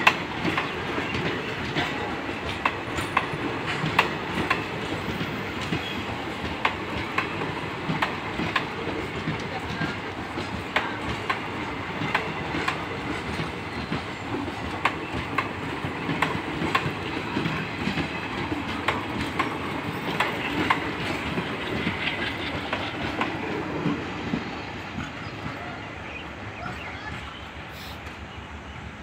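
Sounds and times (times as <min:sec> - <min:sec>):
train wheels clattering over rail joints: 0:00.0 - 0:25.6.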